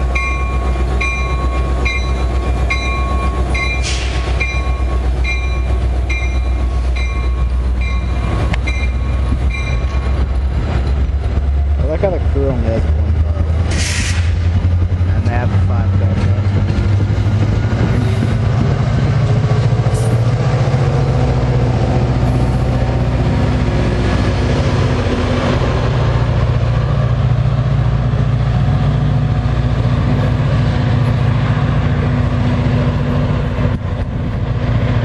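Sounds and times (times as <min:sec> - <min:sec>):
diesel train engine humming: 0:00.0 - 0:35.0.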